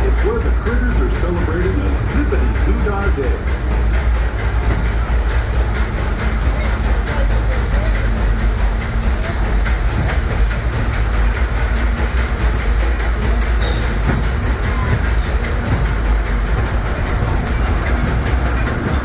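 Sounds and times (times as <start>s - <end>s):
train coach rumble: 0.0s - 19.0s
wheels clicking over rails: 0.0s - 19.0s.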